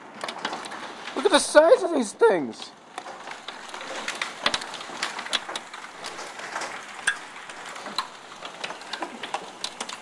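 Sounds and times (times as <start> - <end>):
hailstones striking hard surfaces: 0.1 - 10.0.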